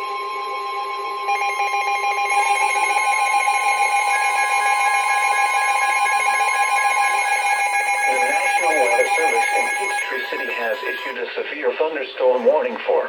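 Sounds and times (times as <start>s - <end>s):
electronic alarm tones: 0.0s - 12.8s.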